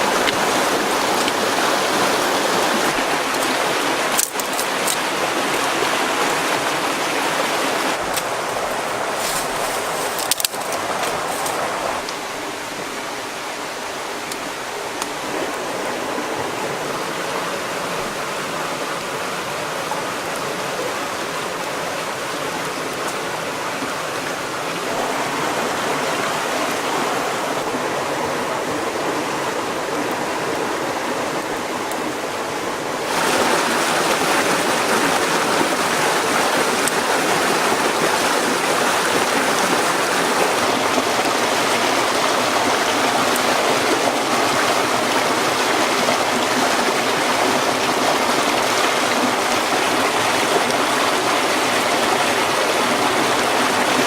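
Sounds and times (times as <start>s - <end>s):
flowing river rushing: 0.0s - 54.0s.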